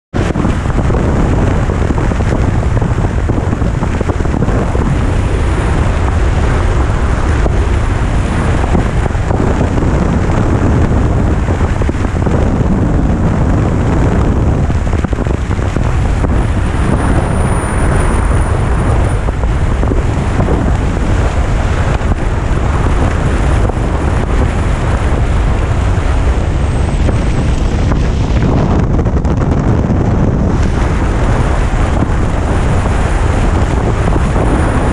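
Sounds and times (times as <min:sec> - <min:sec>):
wind buffeting microphone: 0:00.1 - 0:34.9
motorcycle engine: 0:00.3 - 0:34.9.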